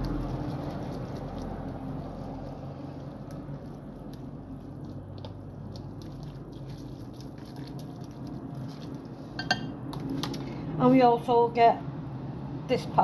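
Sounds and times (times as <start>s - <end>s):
noodles squishing in a bowl: 0.0s - 10.7s.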